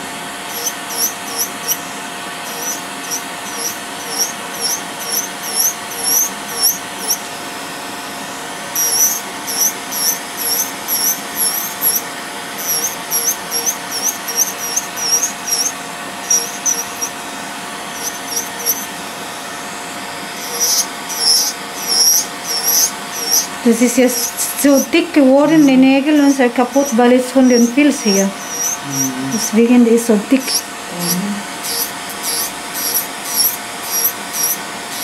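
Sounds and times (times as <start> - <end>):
short high squeaks: 0.0 - 7.2, 8.8 - 12.0, 12.6 - 17.2, 17.9 - 19.0, 20.3 - 29.6, 30.4 - 35.0
electric nail drill whining: 0.0 - 35.0.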